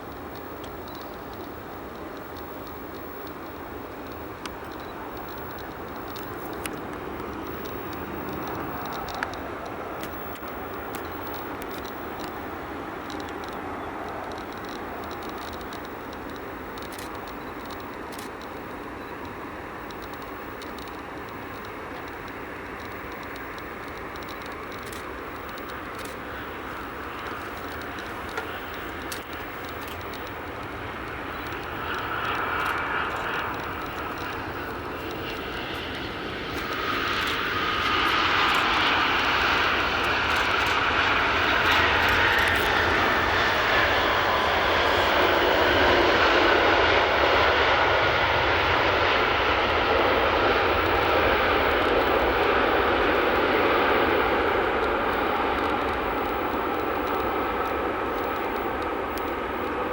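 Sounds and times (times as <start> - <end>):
jet engine whine falling: 0.0 - 59.9
jet engines roaring: 0.0 - 59.9.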